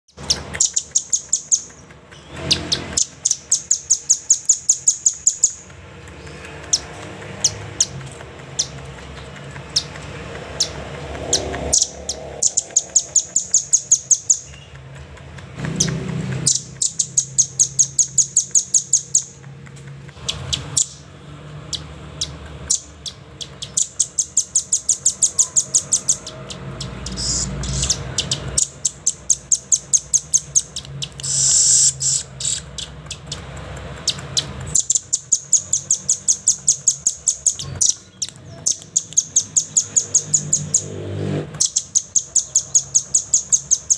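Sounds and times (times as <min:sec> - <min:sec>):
bird trilling: 0:00.1 - 0:14.8, 0:15.7 - 0:19.4, 0:21.7 - 0:33.4, 0:34.0 - 0:41.0, 0:41.6 - 0:43.9.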